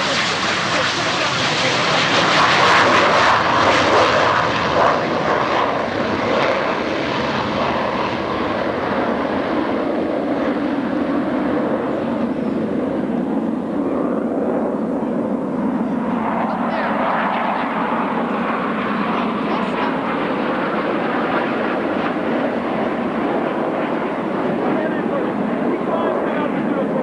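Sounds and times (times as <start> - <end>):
jet engines roaring: 0.0 - 27.0
low jet rumble: 0.0 - 27.0.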